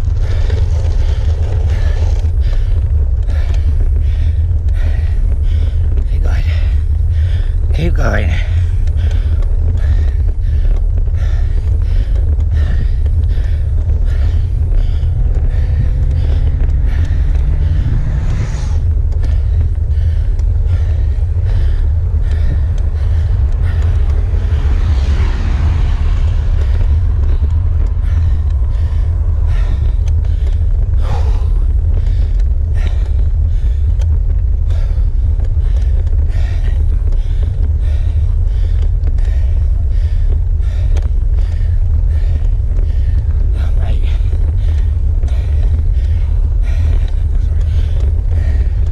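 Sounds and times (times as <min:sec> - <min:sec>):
laboured breathing: 0:00.0 - 0:48.9
wind buffeting microphone: 0:00.0 - 0:48.9.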